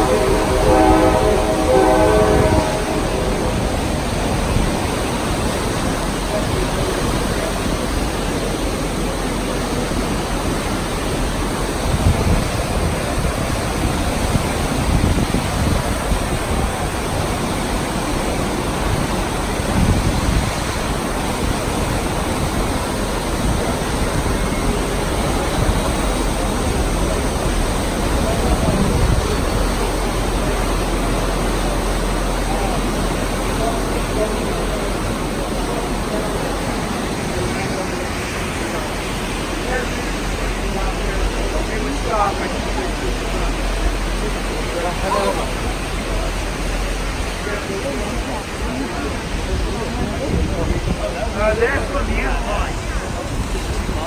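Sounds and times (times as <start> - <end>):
train cars rolling on track: 0.0 - 54.0
wind rushing past train: 0.0 - 54.0.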